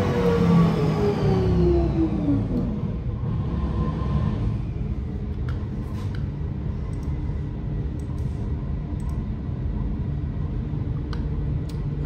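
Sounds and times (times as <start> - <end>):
engine idling low rumble: 0.0 - 12.0.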